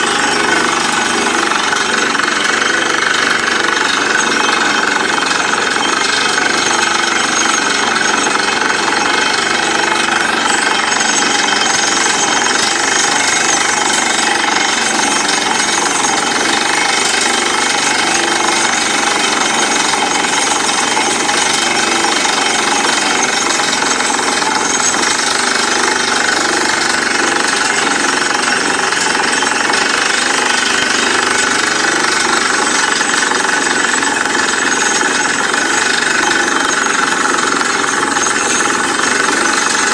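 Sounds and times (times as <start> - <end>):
drilling rig engine and drill: 0.0 - 39.9.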